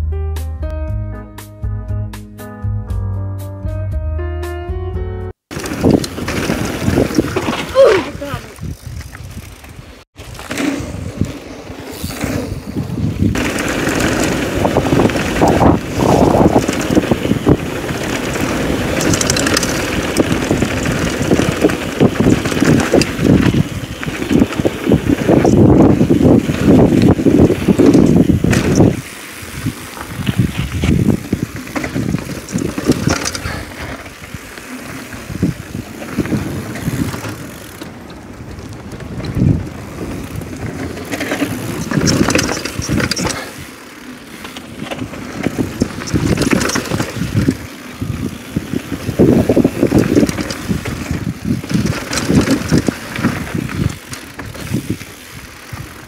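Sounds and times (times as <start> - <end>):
tyres crunching on gravel: 5.5 - 55.9
bike rattling: 5.5 - 56.0
wind buffeting microphone: 5.5 - 56.0.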